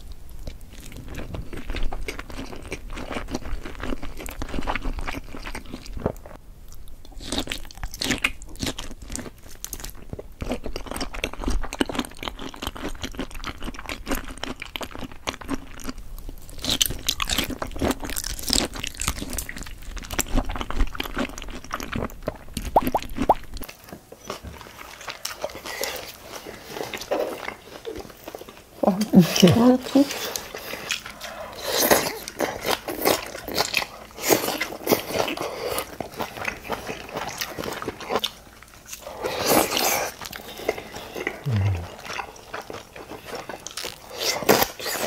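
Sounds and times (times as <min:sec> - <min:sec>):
wet chewing and crunchy bites: 0:00.4 - 0:28.8, 0:29.9 - 0:45.0.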